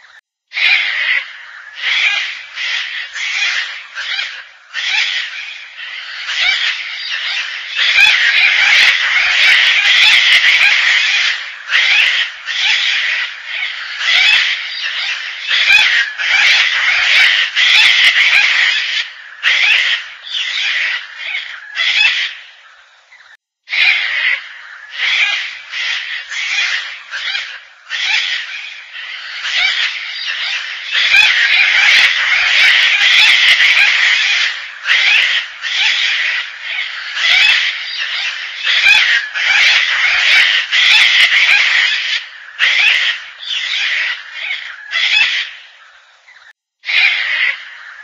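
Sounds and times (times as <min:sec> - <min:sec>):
cockatoo harsh raspy calls: 0:00.0 - 0:48.0.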